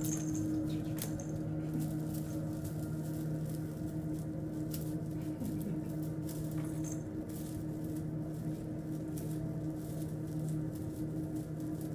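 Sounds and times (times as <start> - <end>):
kittens scratching in wicker basket: 0.0 - 11.9
steady low hum: 0.0 - 11.9.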